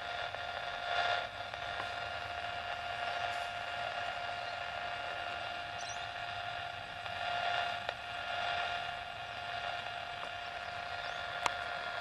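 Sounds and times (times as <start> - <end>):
radio receiver hiss: 0.0 - 12.0.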